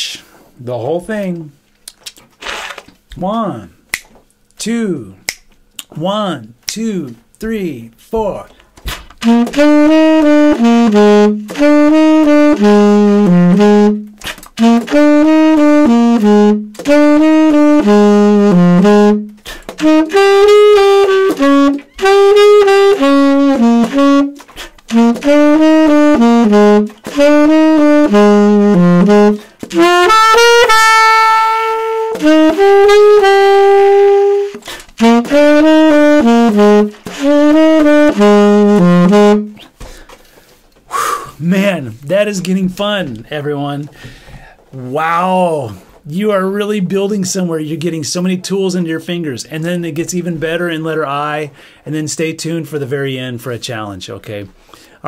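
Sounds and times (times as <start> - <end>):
saxophone playing blues: 5.9 - 51.5.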